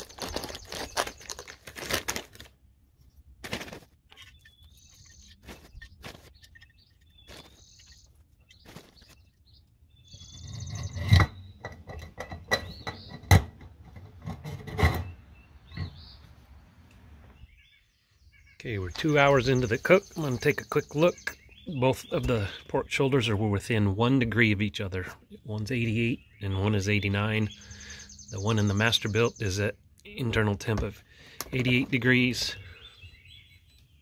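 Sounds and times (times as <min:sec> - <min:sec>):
birds chirping: 0:00.0 - 0:02.2, 0:02.8 - 0:34.0.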